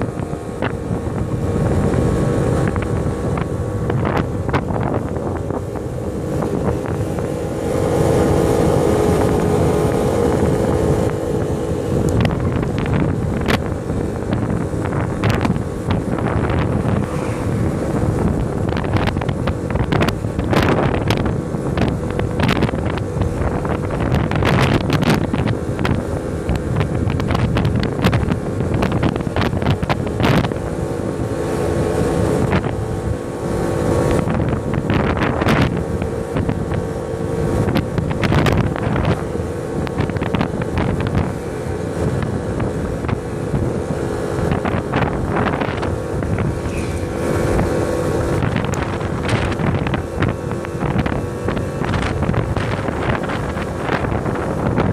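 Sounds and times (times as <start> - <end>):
quad bike engine running: 0.0 - 54.9
wind noise on microphone: 0.0 - 54.9.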